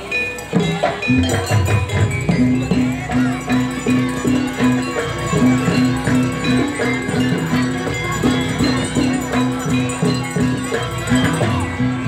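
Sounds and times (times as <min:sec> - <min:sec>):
drum strokes: 0:00.0 - 0:12.0
jingling bells: 0:00.0 - 0:12.0.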